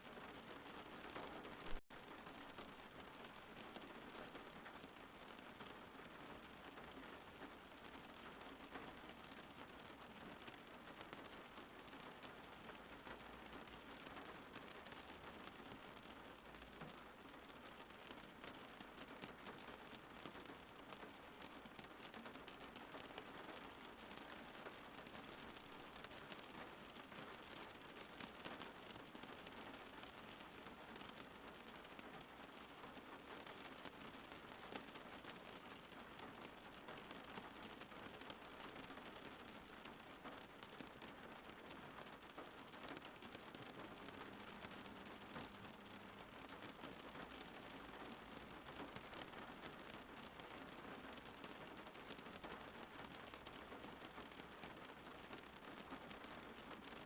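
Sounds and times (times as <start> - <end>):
faint rain drops ticking: 0.0 - 57.0.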